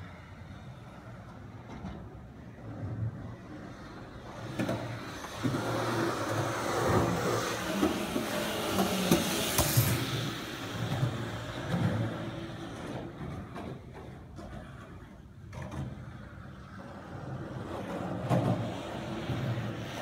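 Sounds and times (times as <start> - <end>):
skateboard wheels rolling on concrete: 0.0 - 20.0
skateboard clacks: 3.4 - 20.0.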